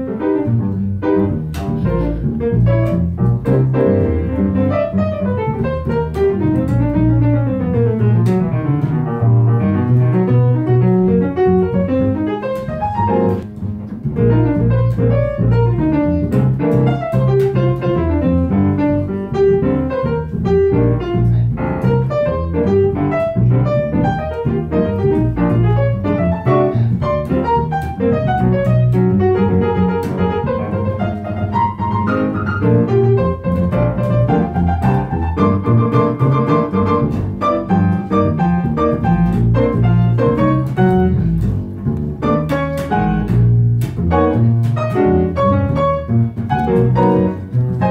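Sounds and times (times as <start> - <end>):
piano playing runs: 0.0 - 47.9.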